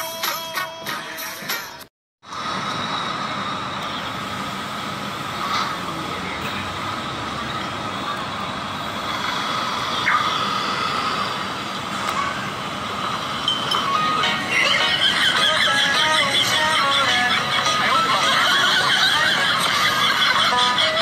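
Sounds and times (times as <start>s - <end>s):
roadside traffic hum: 2.2s - 21.0s.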